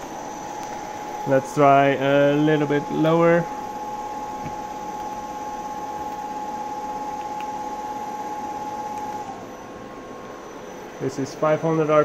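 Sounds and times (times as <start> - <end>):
cooling fan hiss: 0.0 - 12.0
mill spindle whine: 0.0 - 12.0.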